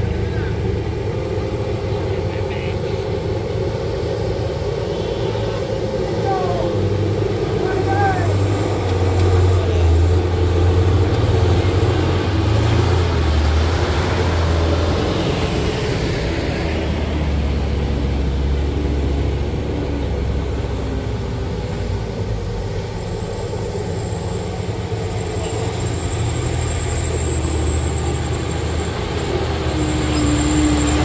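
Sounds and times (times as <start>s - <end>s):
truck diesel engines straining: 0.0s - 31.0s.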